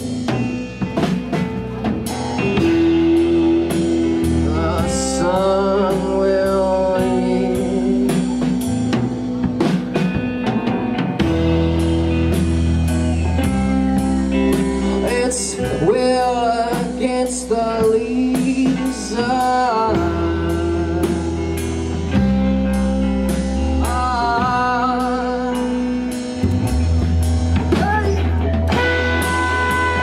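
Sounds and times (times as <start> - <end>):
bass and guitars chords: 0.0 - 30.0
drum kit beat: 0.0 - 30.0
sliding lead melody: 0.0 - 30.0.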